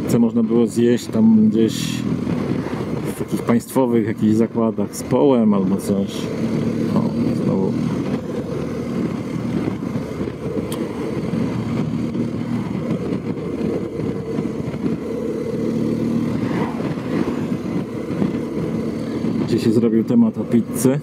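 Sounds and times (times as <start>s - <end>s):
motorcycle engine cruising: 0.0s - 21.0s
wind noise: 0.0s - 21.0s.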